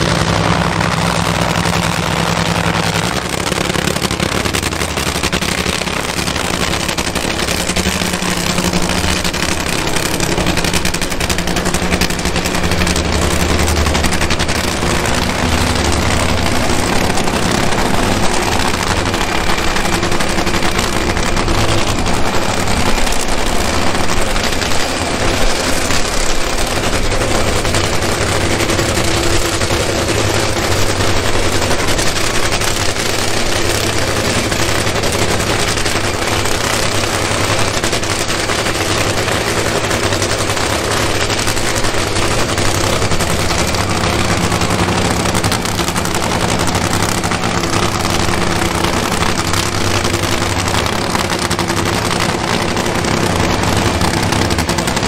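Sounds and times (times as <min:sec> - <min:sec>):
drag racing engine crackle: 0:00.0 - 0:55.0.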